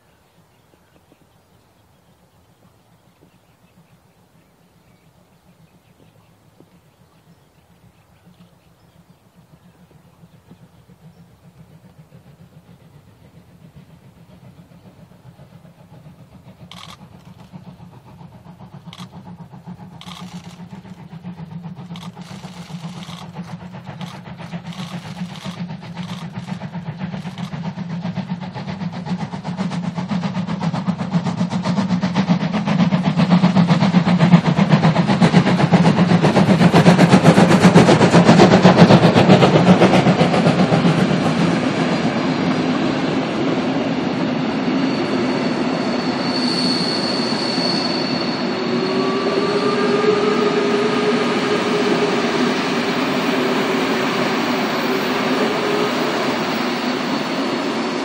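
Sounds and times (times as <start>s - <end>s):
steam train chuffing: 0.0s - 58.0s.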